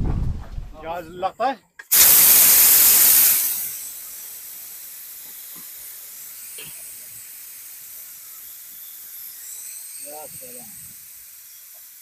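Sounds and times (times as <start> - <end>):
hot cooking pot hissing: 1.8 - 12.0.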